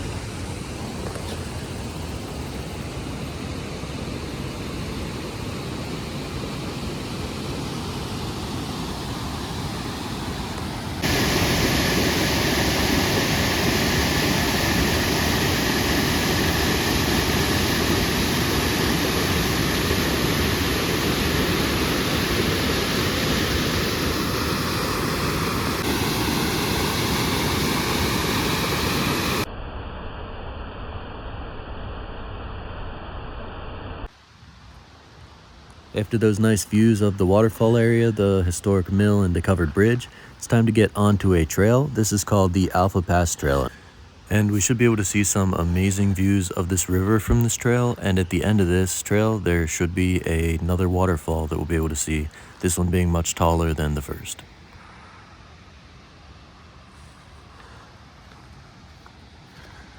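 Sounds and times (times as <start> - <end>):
rushing water of waterfall: 2.8 - 29.5, 34.2 - 59.9.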